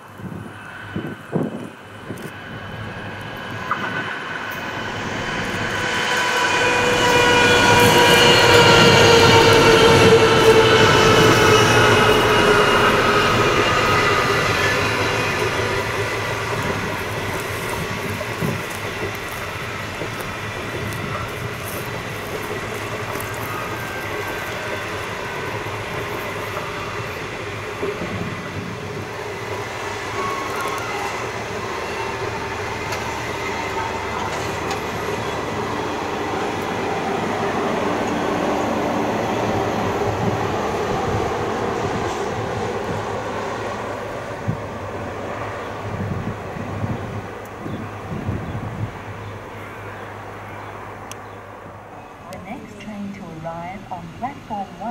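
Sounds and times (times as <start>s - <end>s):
locomotive hum: 0.0s - 54.9s
train wheels rumbling on rails: 0.0s - 54.9s.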